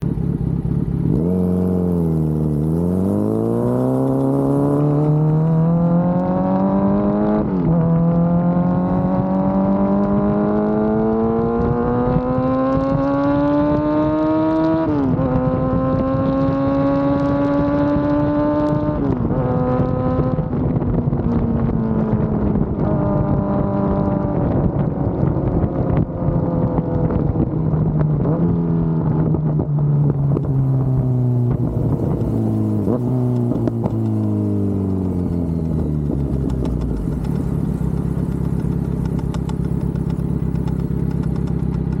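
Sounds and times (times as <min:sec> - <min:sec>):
motorcycle engine revs and idle: 0:00.0 - 0:42.0.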